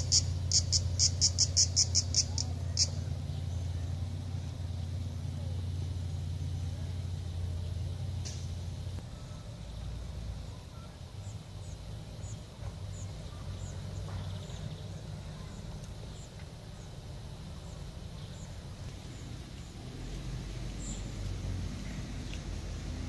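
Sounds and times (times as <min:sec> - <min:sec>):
small bird chirping: 0:00.0 - 0:05.6, 0:09.0 - 0:22.6
low uneven rumble: 0:00.0 - 0:23.0.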